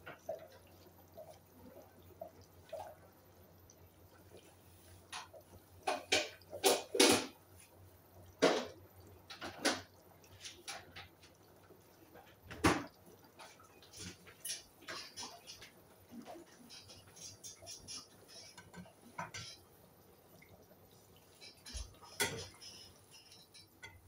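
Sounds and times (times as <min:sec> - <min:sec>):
curry bubbling in a pot: 0:00.0 - 0:24.0.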